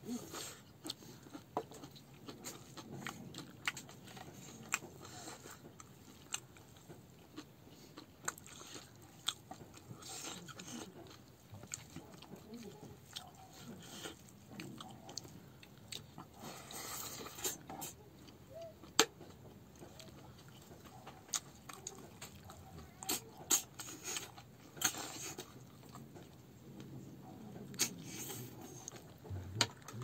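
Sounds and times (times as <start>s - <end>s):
person chewing food: 0.1s - 30.0s.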